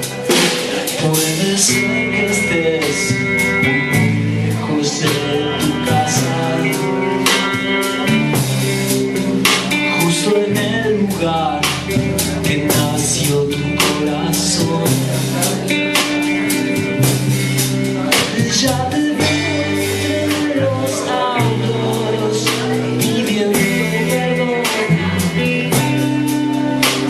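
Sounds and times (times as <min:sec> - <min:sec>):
electric guitar: 0:00.0 - 0:27.0
live rock band playing: 0:00.0 - 0:27.0.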